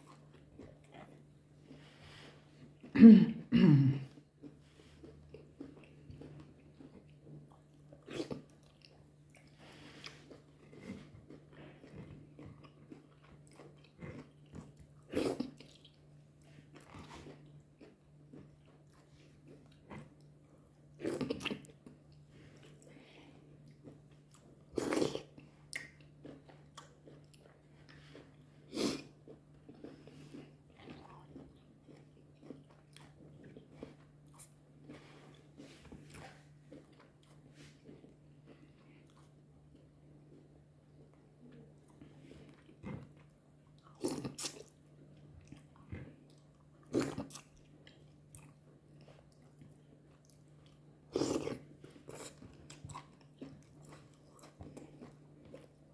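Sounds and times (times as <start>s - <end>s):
person chewing: 0.0s - 55.9s.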